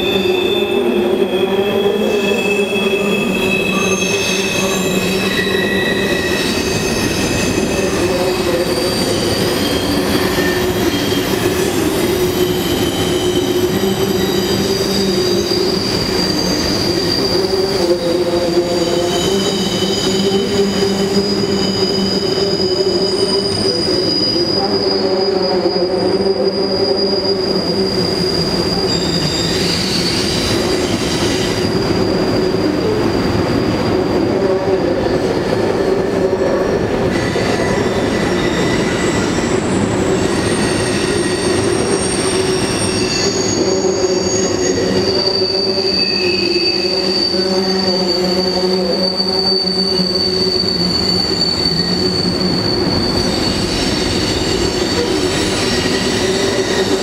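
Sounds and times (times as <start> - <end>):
freight train rumbling on bridge: 0.0 - 57.0
train wheels squealing: 0.0 - 57.0.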